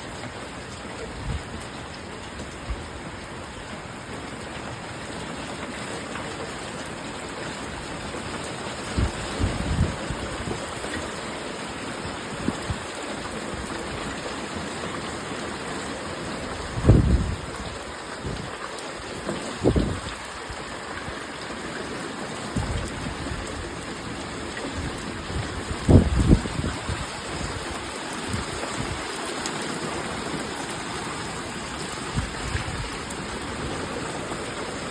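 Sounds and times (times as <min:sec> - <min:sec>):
rushing water: 0:00.0 - 0:34.9
torrential rain pouring: 0:00.0 - 0:34.9.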